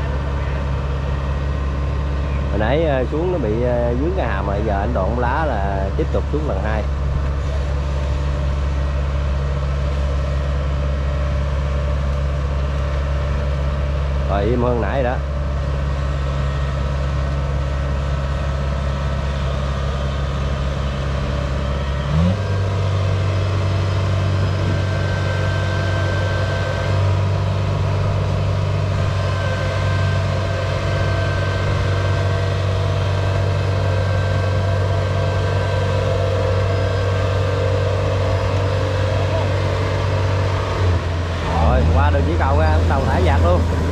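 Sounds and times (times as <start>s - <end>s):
combine harvester diesel engine revving: 0.0s - 43.9s.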